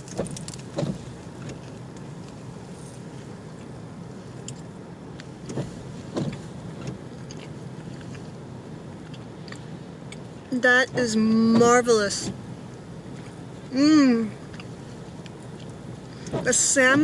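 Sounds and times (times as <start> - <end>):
car cabin hum: 0.0 - 17.0.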